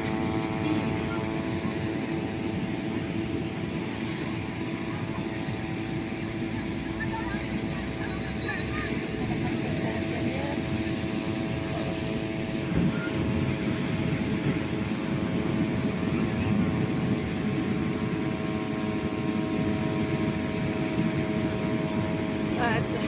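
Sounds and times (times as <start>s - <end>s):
aircraft propeller drone: 0.0s - 23.0s
constant rushing noise: 0.0s - 23.0s.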